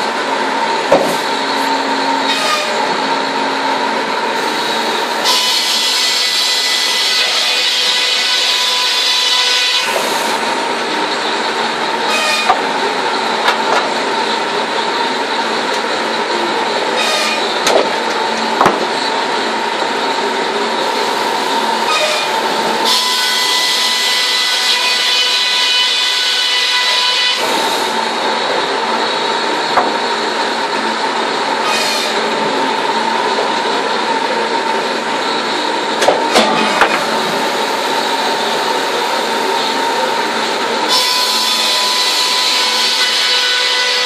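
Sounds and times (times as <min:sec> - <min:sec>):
circular saw whining: 0:00.0 - 0:13.4, 0:18.2 - 0:44.0.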